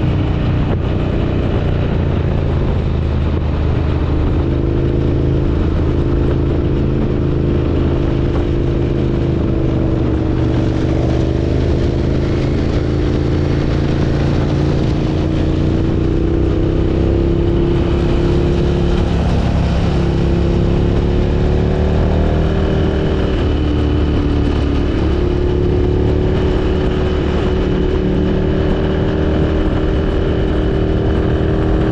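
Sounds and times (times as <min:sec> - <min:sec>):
motorcycle engine cruising: 0:00.0 - 0:31.9
wind and road noise: 0:00.0 - 0:31.9.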